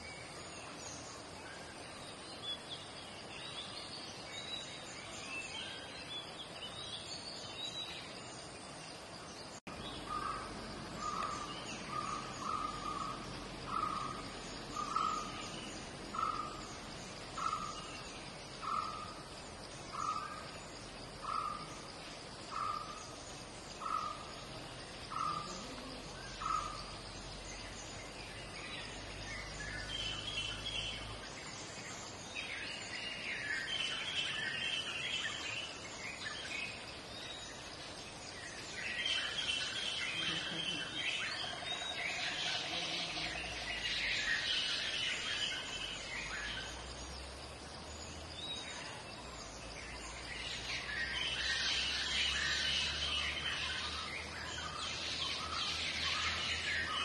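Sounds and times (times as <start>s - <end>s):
birds chirping and twittering: 0.0s - 57.0s
steady background noise: 0.0s - 57.0s.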